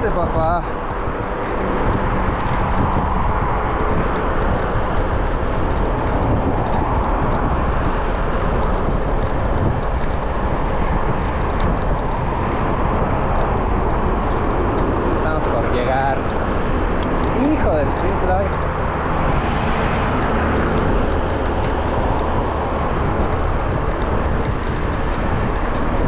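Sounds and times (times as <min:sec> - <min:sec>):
road noise: 0:00.0 - 0:26.0
wind rushing on microphone: 0:00.0 - 0:26.0.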